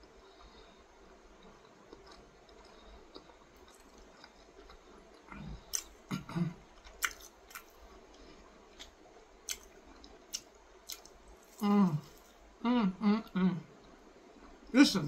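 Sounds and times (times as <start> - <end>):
person chewing food: 0.0 - 12.5.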